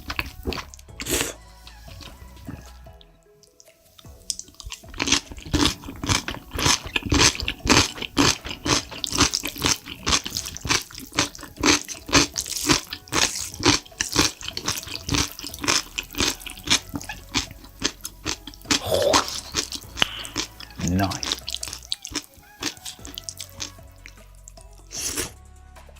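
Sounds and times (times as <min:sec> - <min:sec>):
wet chewing and lip-smacking: 0:00.0 - 0:25.3.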